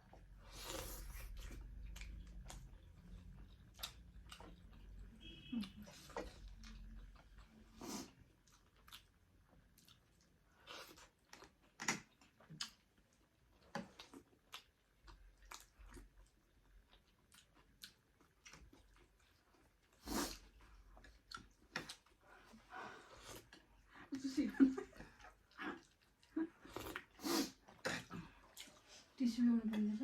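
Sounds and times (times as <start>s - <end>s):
person chewing food: 0.0s - 23.9s, 24.9s - 29.0s.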